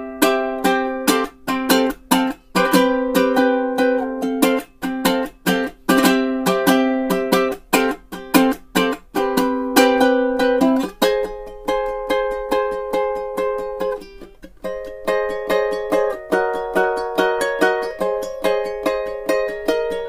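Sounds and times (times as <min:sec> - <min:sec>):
strummed string instrument: 0:00.0 - 0:20.0.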